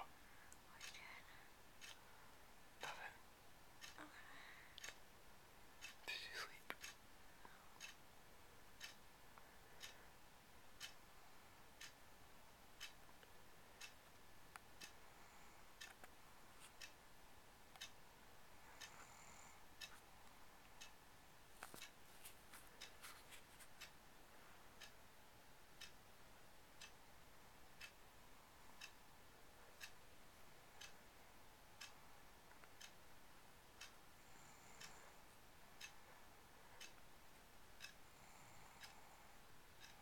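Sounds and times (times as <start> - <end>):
clock ticking: 0.0 - 40.0.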